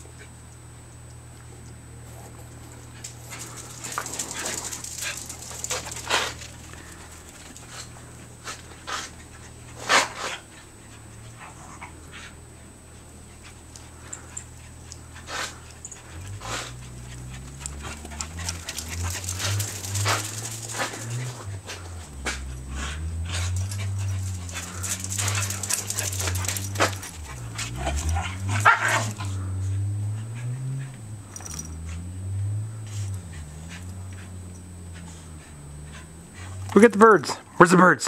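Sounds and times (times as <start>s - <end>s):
dogs panting: 0.1s - 37.7s.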